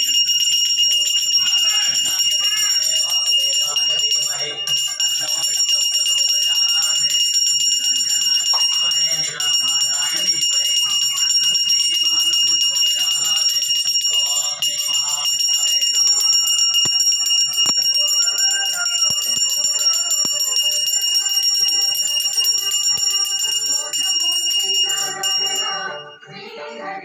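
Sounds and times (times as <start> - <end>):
bell ringing rapidly: 0.0 - 27.0.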